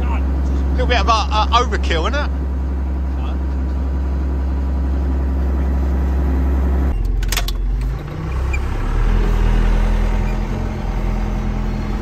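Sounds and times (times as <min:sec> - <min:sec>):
diesel engine idling: 0:00.0 - 0:12.0
tractor diesel engine running: 0:00.0 - 0:12.0.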